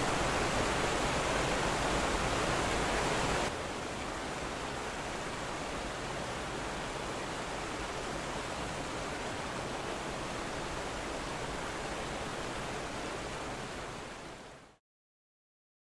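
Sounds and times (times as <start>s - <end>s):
running water rushing: 0.0s - 14.6s.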